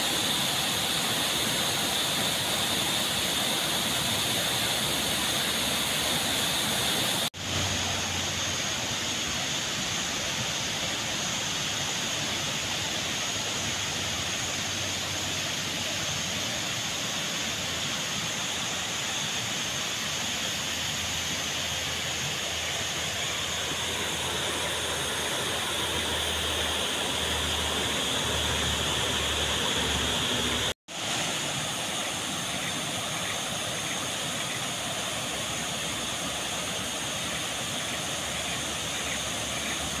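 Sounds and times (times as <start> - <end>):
waterfall and river rushing: 0.0 - 40.0.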